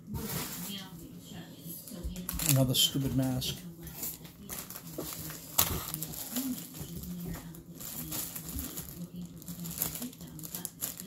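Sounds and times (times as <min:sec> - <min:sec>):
packaging rustling: 0:02.1 - 0:11.0.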